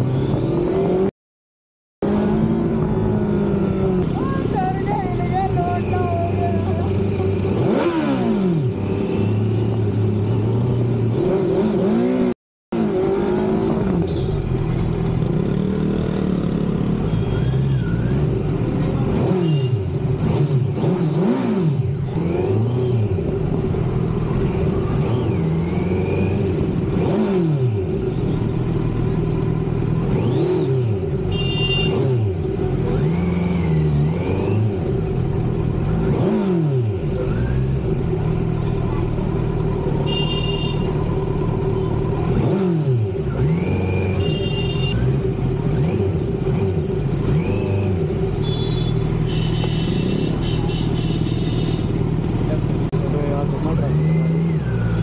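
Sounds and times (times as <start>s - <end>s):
motorcycle engine revving: 5.7s - 55.0s.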